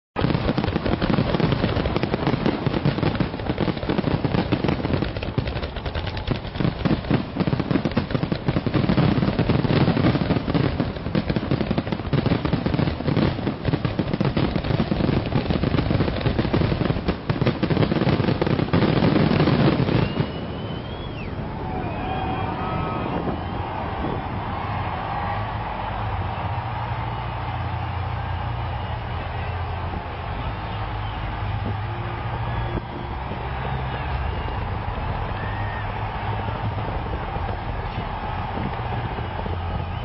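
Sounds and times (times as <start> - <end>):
fireworks bangs and crackles: 0.2 - 40.0.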